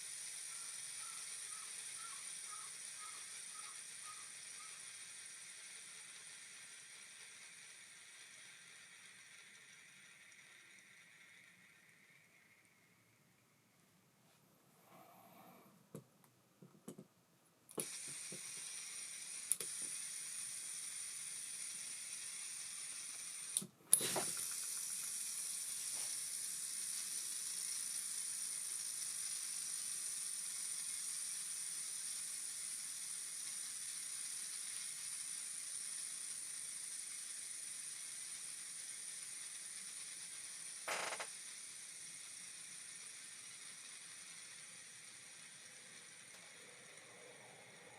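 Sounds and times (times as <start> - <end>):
reel spool whirring: 0.0 - 13.2, 17.8 - 47.9.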